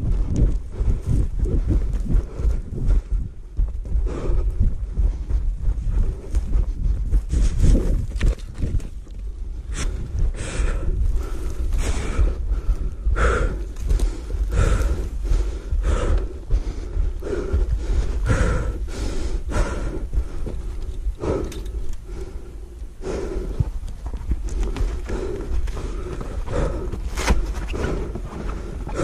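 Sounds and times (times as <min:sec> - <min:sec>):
man breathing heavily: 0:00.0 - 0:29.0.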